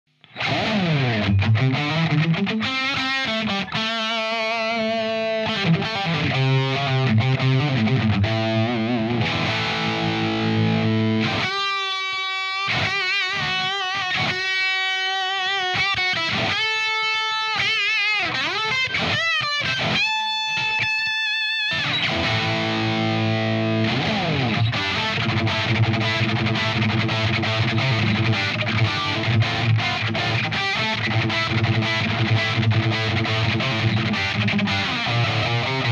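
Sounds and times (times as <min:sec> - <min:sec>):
distorted electric guitar: 0:00.1 - 0:35.9.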